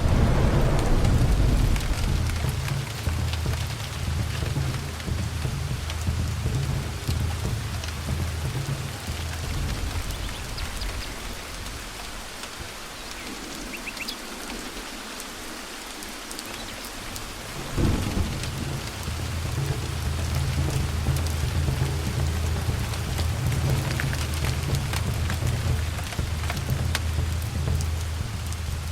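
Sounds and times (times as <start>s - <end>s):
rolling thunder: 0.0s - 12.8s, 17.2s - 28.9s
thunder clap: 0.0s - 12.8s, 17.1s - 28.9s
steady rain: 0.0s - 28.9s.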